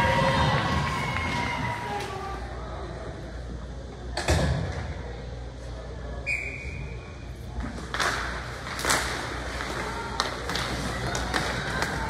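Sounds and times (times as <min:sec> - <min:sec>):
murmur of spectators: 0:00.0 - 0:12.0.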